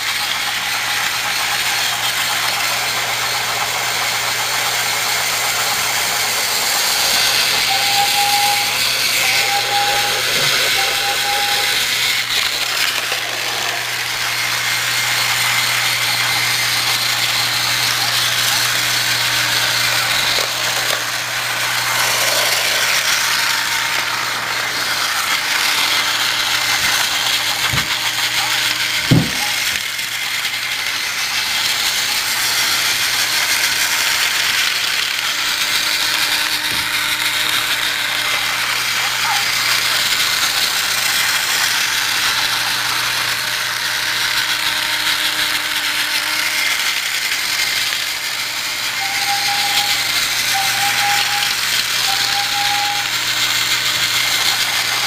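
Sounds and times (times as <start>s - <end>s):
toy train motor whirring: 0.0s - 55.0s.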